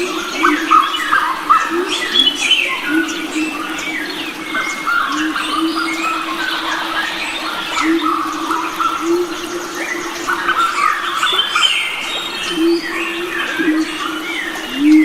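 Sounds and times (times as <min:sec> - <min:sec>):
forest birds chirping: 0:00.0 - 0:15.0.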